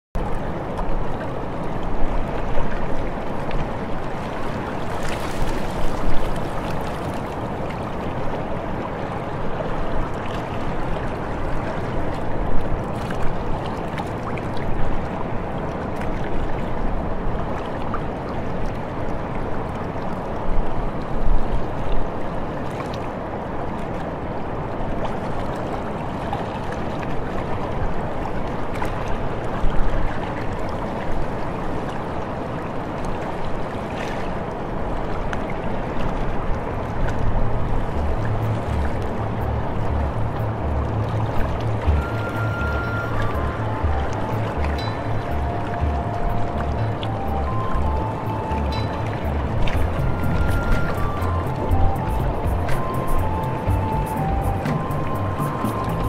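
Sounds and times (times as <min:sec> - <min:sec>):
river current and surf: 0:00.2 - 0:56.0.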